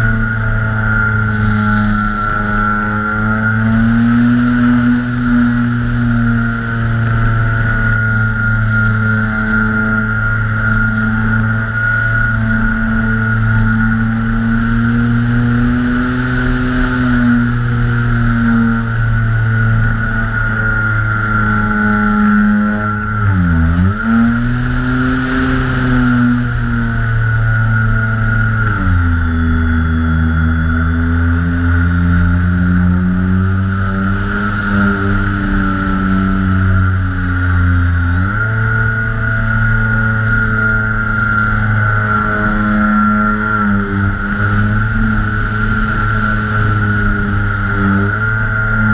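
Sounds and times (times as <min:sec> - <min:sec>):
electric motors droning with whine: 0:00.0 - 0:48.9.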